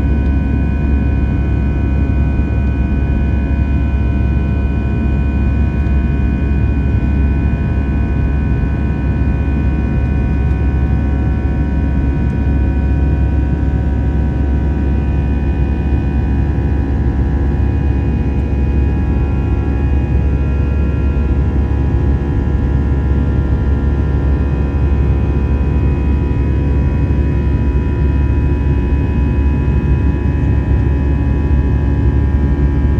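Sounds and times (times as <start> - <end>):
jet engine cabin rumble and roar: 0.0 - 32.9.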